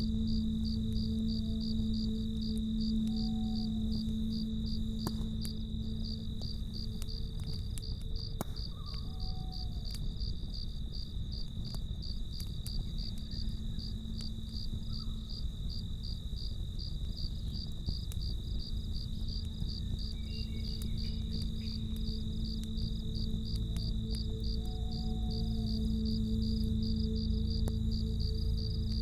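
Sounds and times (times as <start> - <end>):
crickets chirping: 0.0 - 29.0
fire crackles: 0.0 - 29.0
low rumble of a campfire: 0.0 - 29.0.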